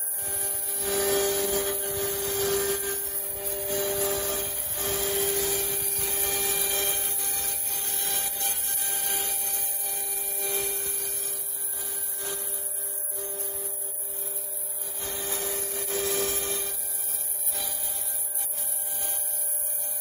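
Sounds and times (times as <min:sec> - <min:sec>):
rasping cutting noise: 0:00.0 - 0:20.0
router spindle whine: 0:00.0 - 0:20.0.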